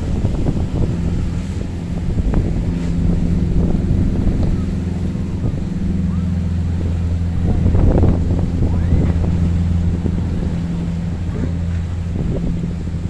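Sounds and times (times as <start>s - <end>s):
boat engines droning: 0.0s - 13.0s
rough surf: 0.0s - 13.0s
strong wind buffeting microphone: 0.0s - 13.0s.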